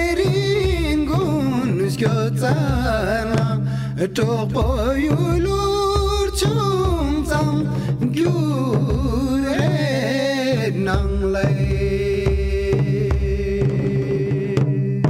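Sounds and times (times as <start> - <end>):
instrumental accompaniment with beat: 0.0 - 15.0
person singing: 0.0 - 15.0.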